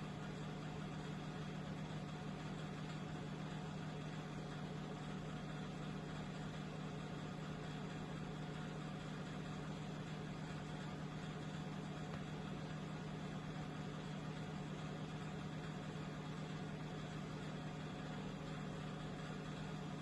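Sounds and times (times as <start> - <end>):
heater fan humming: 0.0 - 20.0.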